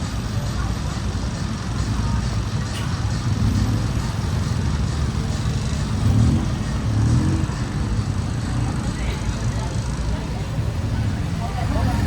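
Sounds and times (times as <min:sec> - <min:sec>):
motor vehicle engines running: 0:00.0 - 0:12.0.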